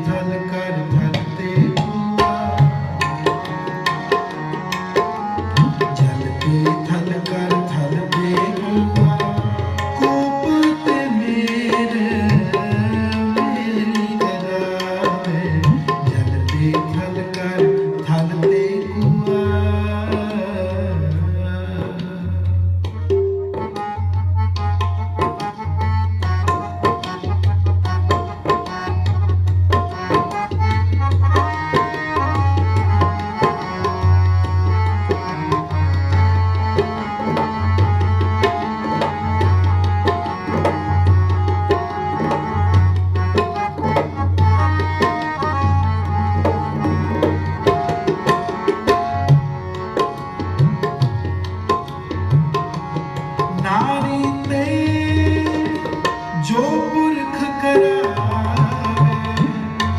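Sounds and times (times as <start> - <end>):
harmonium sustained notes: 0.0 - 14.6, 23.0 - 59.8
tabla fast rhythm: 0.0 - 59.9.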